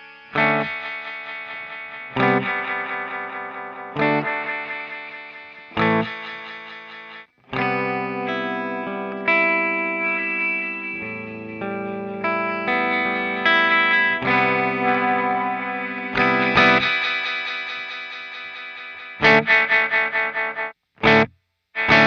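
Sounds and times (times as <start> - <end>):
electric guitar chords with delay: 0.0 - 22.0.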